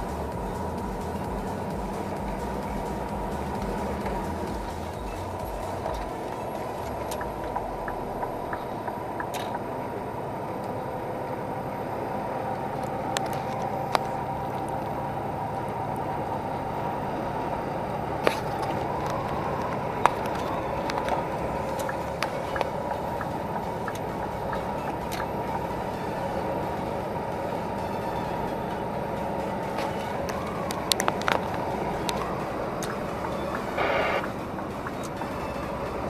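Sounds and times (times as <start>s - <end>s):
diesel truck engine droning: 0.0s - 36.0s.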